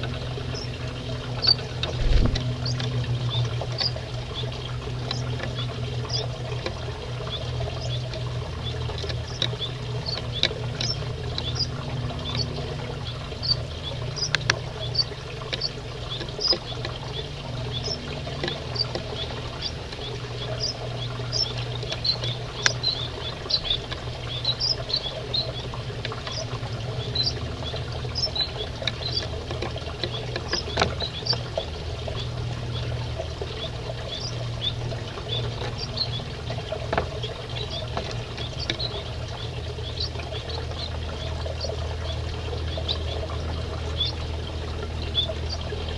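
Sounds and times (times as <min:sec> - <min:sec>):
finches chirping: 0:00.0 - 0:45.9
steady low hum: 0:00.0 - 0:45.9.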